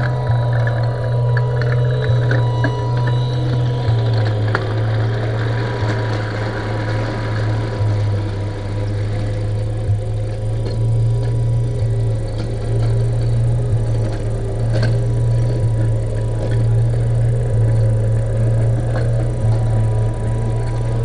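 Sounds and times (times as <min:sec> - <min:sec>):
faint ticks: 0:00.0 - 0:21.0
model tank engine sound: 0:00.0 - 0:21.0.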